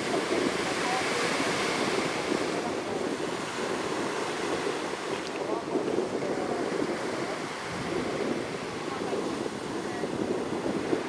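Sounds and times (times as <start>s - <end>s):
small waves breaking on beach: 0.0s - 11.0s
wind buffeting microphone: 0.0s - 11.0s.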